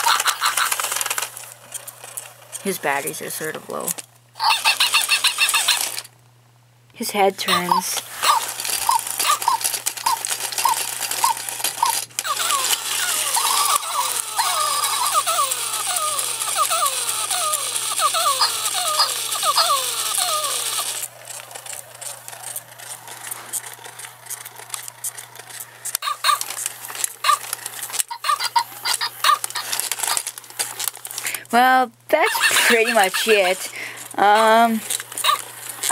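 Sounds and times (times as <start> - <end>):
plastic toy clicking and rattling: 0.0 - 6.1, 7.5 - 31.5, 32.2 - 35.9.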